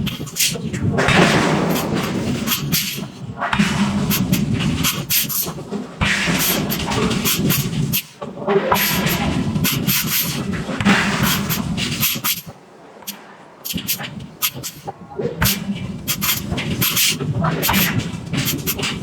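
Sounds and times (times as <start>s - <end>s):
forging machinery droning: 0.0s - 19.0s
machinery hissing: 0.0s - 19.0s.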